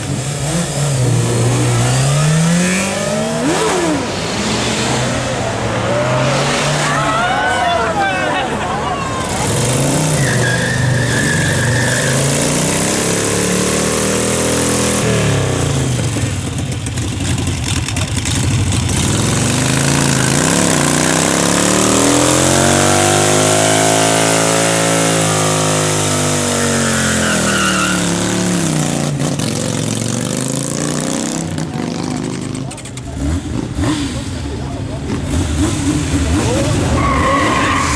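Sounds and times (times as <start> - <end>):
motorcycle engine at high revs: 0.0 - 5.3, 11.2 - 37.9.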